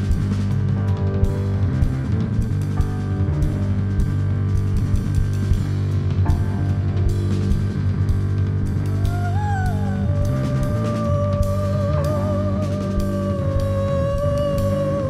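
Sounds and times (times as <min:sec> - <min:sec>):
drum kit hits: 0:00.0 - 0:14.8
electric bass notes: 0:00.0 - 0:15.0
electric piano chords: 0:00.0 - 0:15.0.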